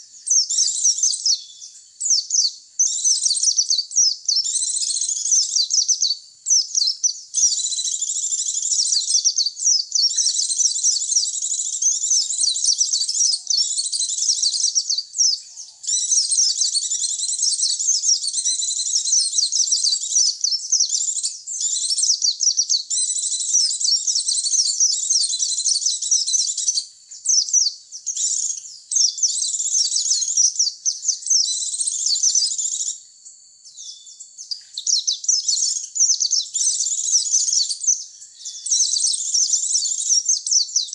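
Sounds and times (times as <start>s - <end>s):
bird twittering rapidly: 0.0s - 40.9s.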